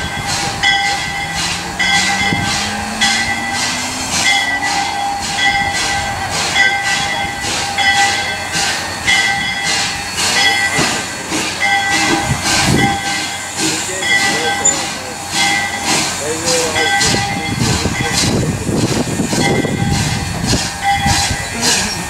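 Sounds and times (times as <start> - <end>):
locomotive bell ringing: 0.0 - 22.0.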